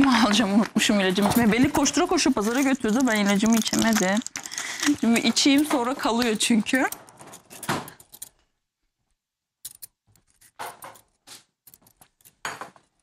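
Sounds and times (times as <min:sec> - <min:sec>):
utensils clicking and scraping: 0:00.3 - 0:08.4, 0:09.6 - 0:12.5.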